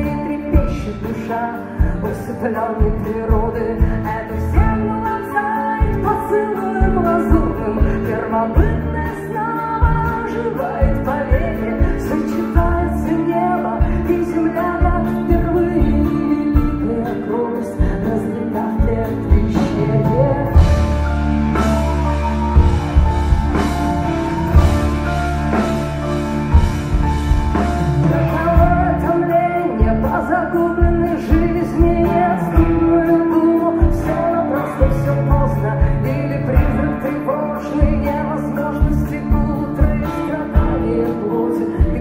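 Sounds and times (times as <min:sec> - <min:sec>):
woman singing: 0:00.0 - 0:25.7, 0:27.5 - 0:42.0
bass and drums: 0:00.0 - 0:42.0.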